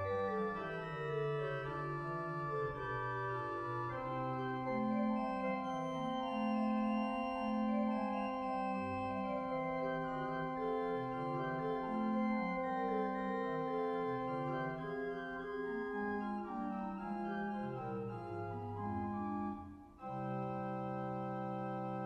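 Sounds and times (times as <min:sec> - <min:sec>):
slow organ music: 0:00.0 - 0:22.0.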